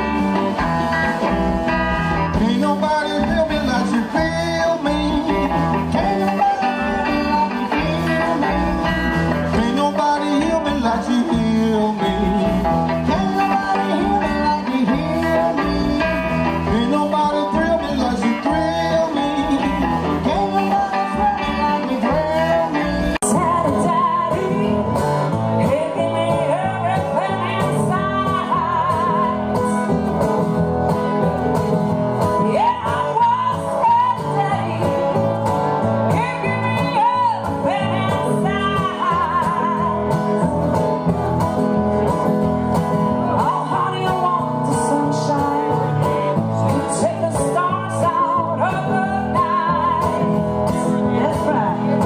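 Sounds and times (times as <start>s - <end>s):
acoustic guitars: 0.0s - 52.0s
electric blues band: 0.0s - 52.0s
woman singing: 2.4s - 30.0s, 32.2s - 41.4s, 43.2s - 52.0s.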